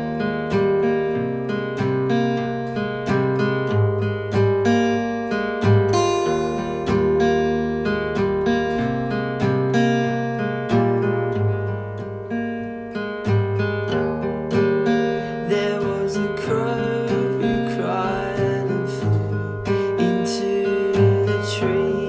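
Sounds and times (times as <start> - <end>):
acoustic guitar plucked chords: 0.0 - 22.0.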